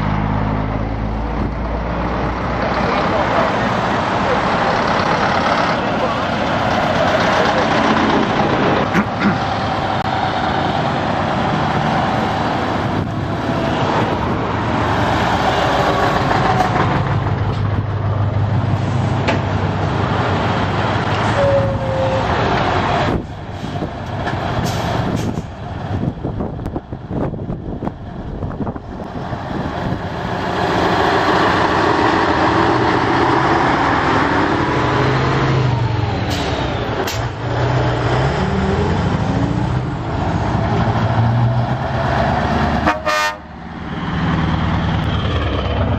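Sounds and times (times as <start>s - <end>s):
diesel trucks driving past: 0.0s - 45.9s.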